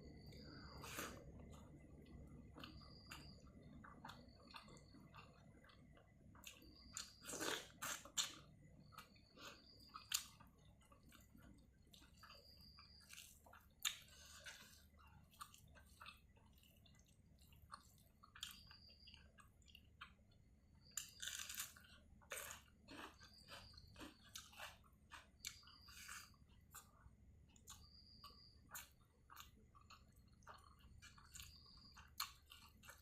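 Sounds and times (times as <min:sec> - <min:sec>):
close-up chewing: 0:00.1 - 0:33.0.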